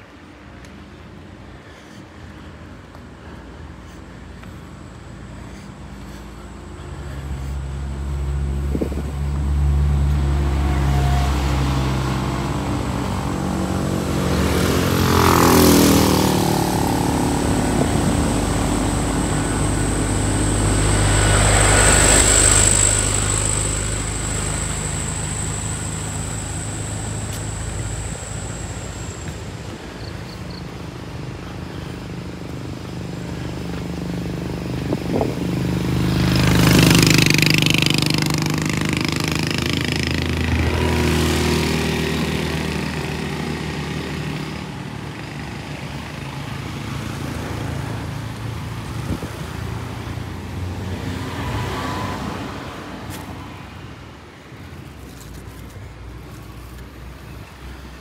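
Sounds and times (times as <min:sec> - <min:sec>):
vehicles driving past: 0:00.0 - 0:58.0.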